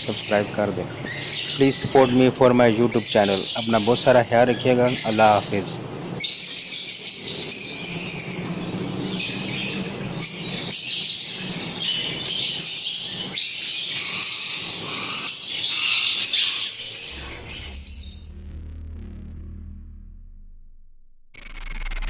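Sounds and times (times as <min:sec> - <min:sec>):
parrots chattering and chirping: 0:00.0 - 0:18.0.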